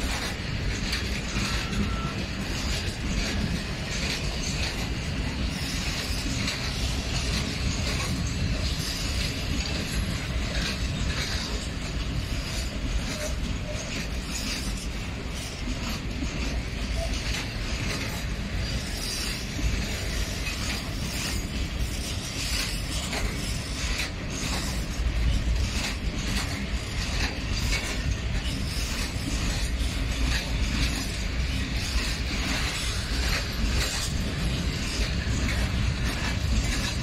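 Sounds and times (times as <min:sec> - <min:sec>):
train wheels rumbling on rails: 0:00.0 - 0:37.0
wagons clanking and rattling: 0:00.0 - 0:37.0.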